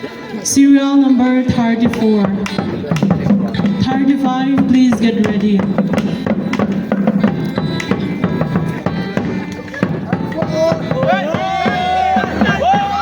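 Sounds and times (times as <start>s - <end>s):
crowd shouting and cheering: 0.0s - 13.0s
music with drum beat over loudspeakers: 1.2s - 13.0s.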